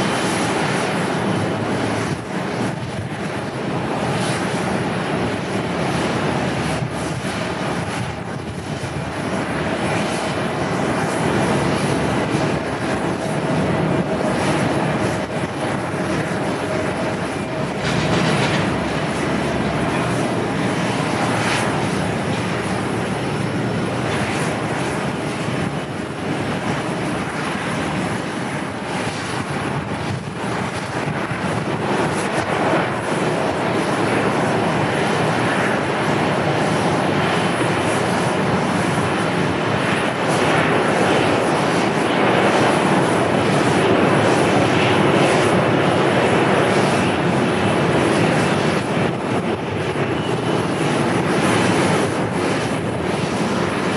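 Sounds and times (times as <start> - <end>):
faint engine whine: 0.0 - 53.9
jet engines roaring: 0.0 - 53.9.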